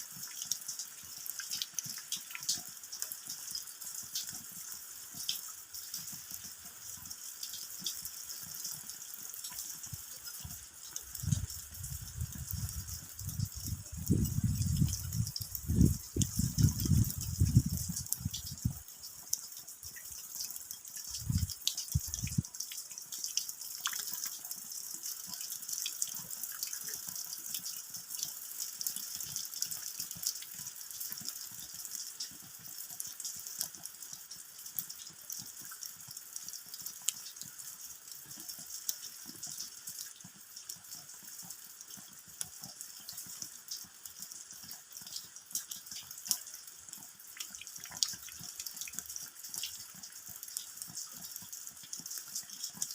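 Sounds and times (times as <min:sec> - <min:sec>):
rain drops pattering: 0:00.0 - 0:52.9.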